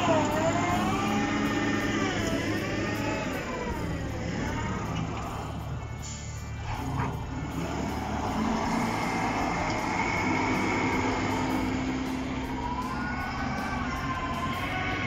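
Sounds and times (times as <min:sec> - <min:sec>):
engine and road hum: 0:00.0 - 0:15.0.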